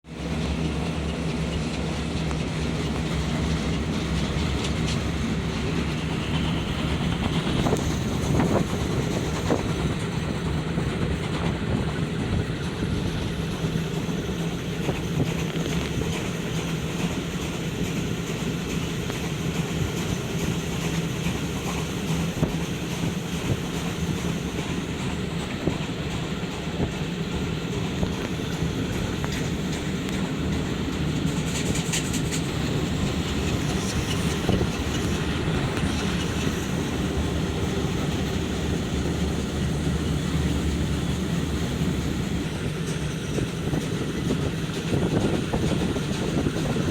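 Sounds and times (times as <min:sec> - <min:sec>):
train rumbling: 0:00.0 - 0:46.9
wheels clicking over rail joints: 0:00.2 - 0:46.9.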